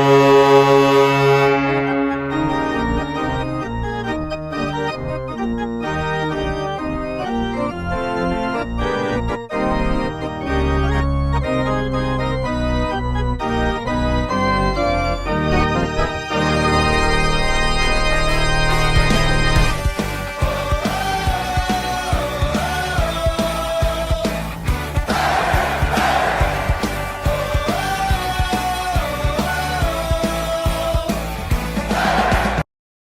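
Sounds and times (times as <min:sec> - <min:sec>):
arena organ playing: 0:00.0 - 0:31.5.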